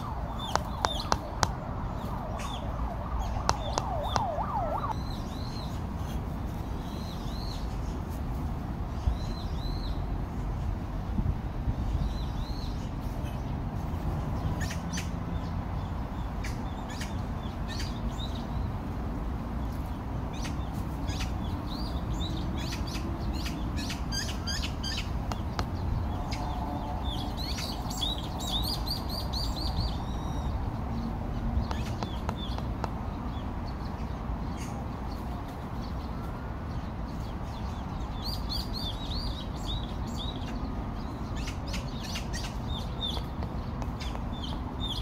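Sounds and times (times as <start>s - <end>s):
birds chirping and calling: 0.0s - 8.2s, 11.9s - 18.8s, 19.6s - 45.0s.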